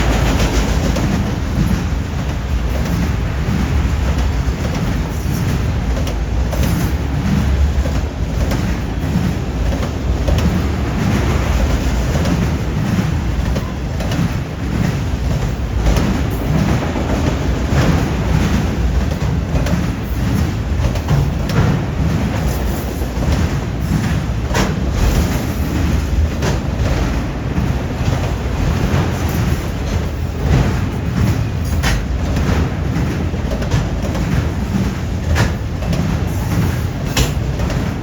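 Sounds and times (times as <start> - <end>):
freight train rumbling past: 0.0 - 38.0
wheels clacking over rail joints: 0.0 - 38.0.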